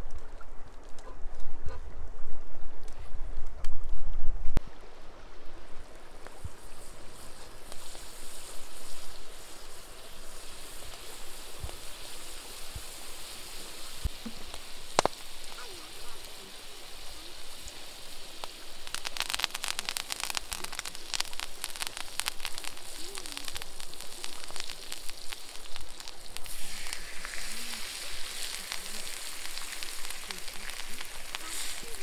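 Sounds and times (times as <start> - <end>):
butter sizzling on a griddle: 6.1 - 32.0.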